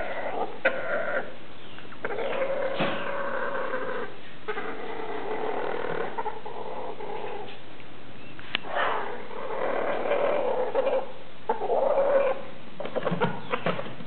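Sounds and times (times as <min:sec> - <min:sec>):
chickens making low drawn-out calls: 0:00.0 - 0:14.0.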